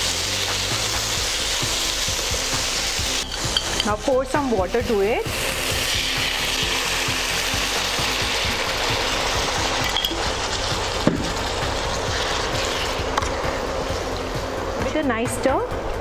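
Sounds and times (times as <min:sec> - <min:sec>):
chicken sizzling in a pan: 0:00.0 - 0:14.5.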